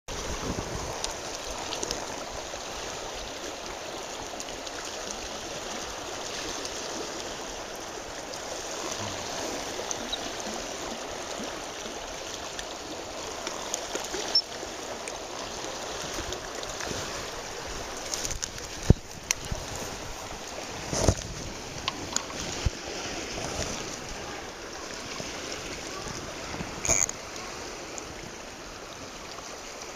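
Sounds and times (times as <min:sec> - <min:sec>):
river water rushing: 0:00.1 - 0:29.9.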